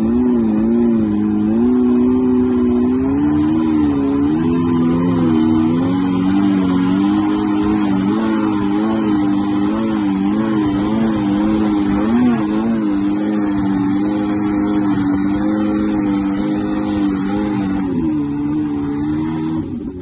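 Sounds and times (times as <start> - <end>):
car engine pulling at steady revs: 0.0 - 20.0.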